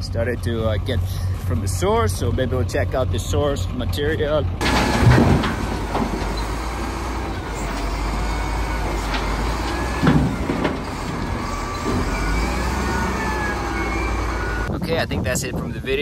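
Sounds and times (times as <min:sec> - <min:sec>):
diesel engine running: 0:00.0 - 0:14.8.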